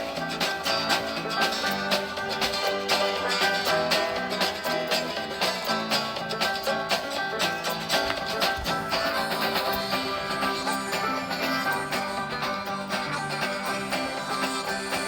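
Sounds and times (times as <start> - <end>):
instrumental music with plucked strings: 0.0 - 15.0.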